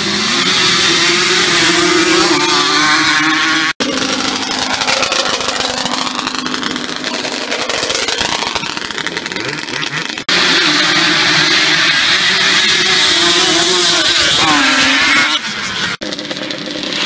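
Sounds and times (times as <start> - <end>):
quad engines revving: 0.0 - 17.0.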